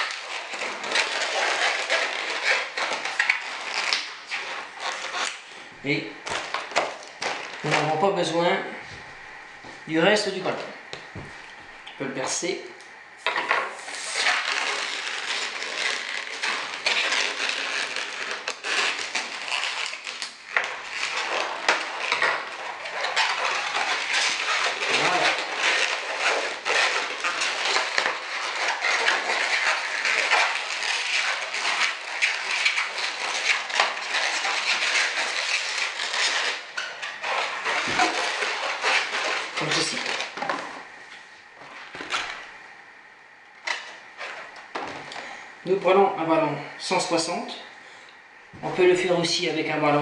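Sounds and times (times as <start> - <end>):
balloon squeaking and rubbing: 0.0 - 11.3, 13.7 - 41.0, 41.8 - 42.5, 43.6 - 45.8.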